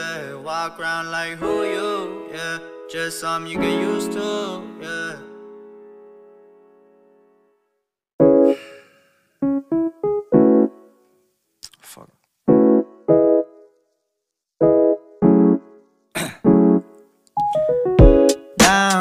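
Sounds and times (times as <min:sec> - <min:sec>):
piano music snippets: 0:00.0 - 0:11.3, 0:12.4 - 0:13.9, 0:14.6 - 0:19.0.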